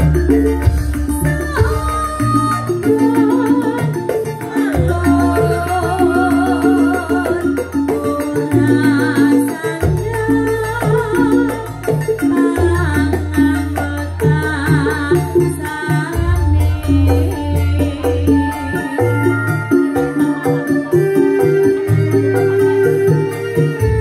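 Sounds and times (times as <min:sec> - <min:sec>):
bass line: 0:00.0 - 0:04.1, 0:04.8 - 0:24.0
keyboard: 0:00.0 - 0:24.0
percussion: 0:00.0 - 0:24.0
woman singing with vibrato: 0:00.0 - 0:24.0.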